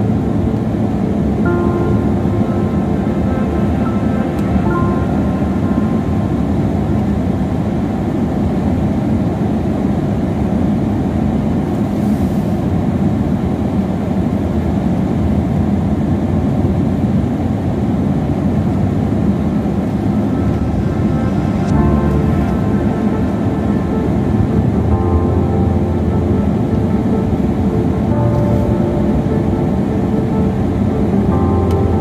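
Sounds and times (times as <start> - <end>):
car engine and tyre noise: 0.0 - 32.0.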